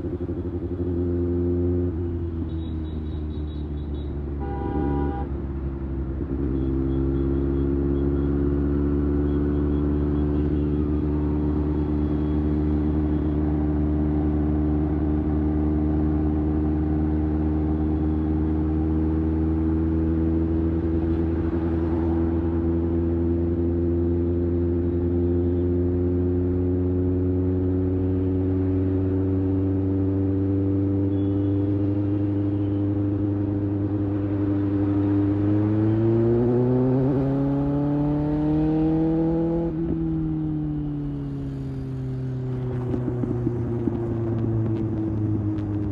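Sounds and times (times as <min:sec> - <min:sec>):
motorcycle engine cruising: 0:05.6 - 0:45.9.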